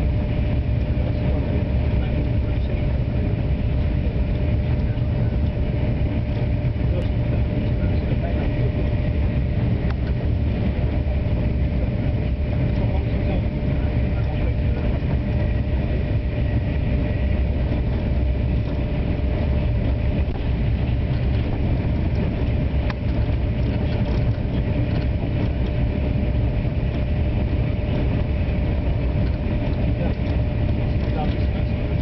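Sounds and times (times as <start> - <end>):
high-speed train rumble: 0.0 - 32.0.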